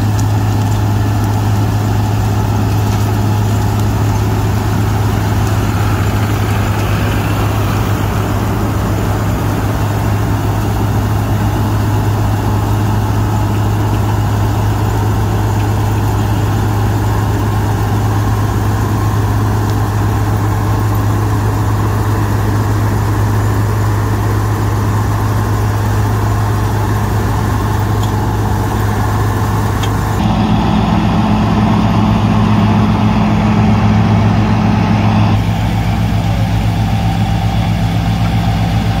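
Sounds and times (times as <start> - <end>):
combine harvester engine droning: 0.0 - 39.0.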